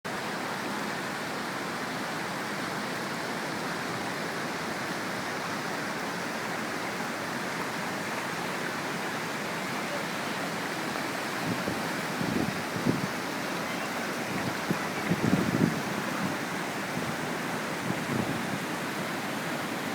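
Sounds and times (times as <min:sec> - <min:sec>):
floodwater rushing: 0:00.1 - 0:19.9.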